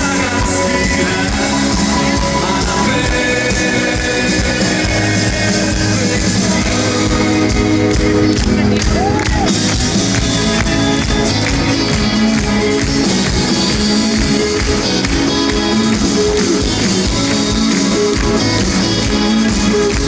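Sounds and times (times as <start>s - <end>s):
live rock band playing loudly: 0.0s - 20.0s.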